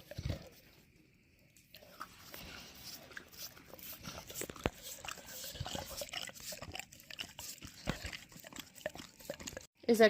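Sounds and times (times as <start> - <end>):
dog chewing a treat: 0.0 - 0.9, 1.5 - 9.7.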